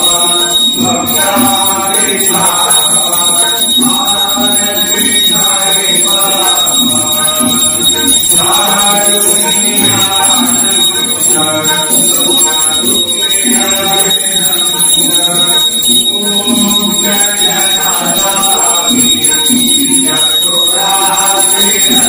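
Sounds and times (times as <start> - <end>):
devotional chant-like singing: 0.0 - 22.0.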